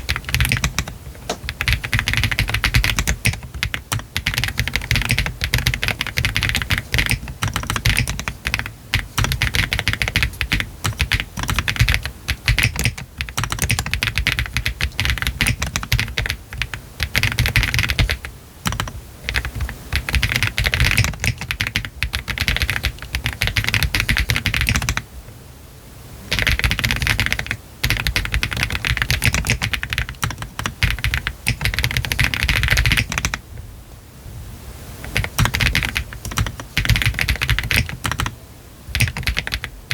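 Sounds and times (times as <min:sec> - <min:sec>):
typing on mechanical keyboard: 0:00.0 - 0:25.0, 0:26.3 - 0:33.4, 0:35.0 - 0:39.9.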